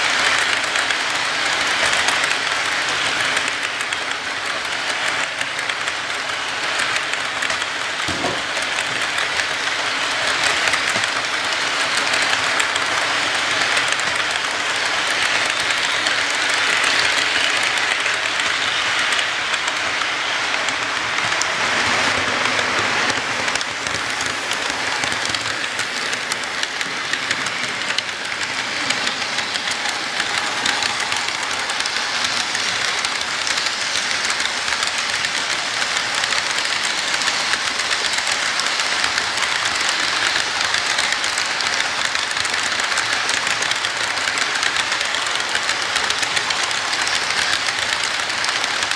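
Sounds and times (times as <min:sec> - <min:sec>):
model train cars clattering: 0:00.0 - 0:48.9
wheels ticking over rails: 0:00.0 - 0:48.9.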